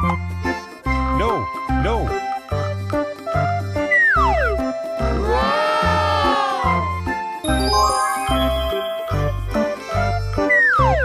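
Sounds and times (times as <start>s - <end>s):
cheerful children's music: 0.0s - 11.0s.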